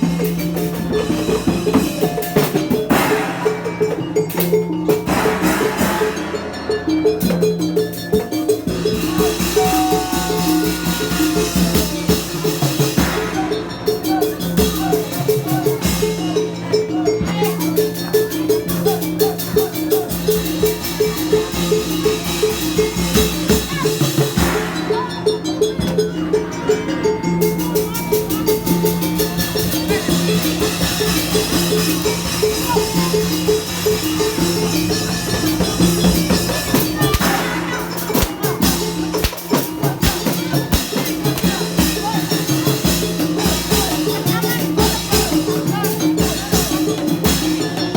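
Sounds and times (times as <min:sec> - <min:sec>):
street band with drums: 0:00.0 - 0:47.9.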